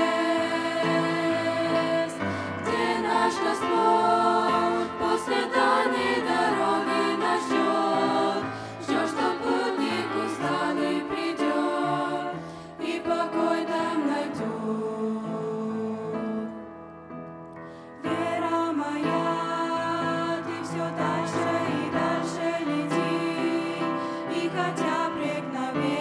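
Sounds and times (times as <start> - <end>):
girls singing together: 0.0 - 15.9, 18.1 - 26.0.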